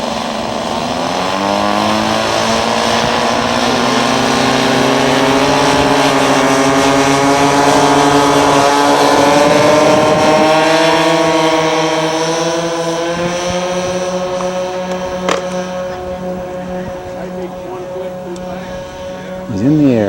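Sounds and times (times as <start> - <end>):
model aircraft engines running: 0.0 - 20.0.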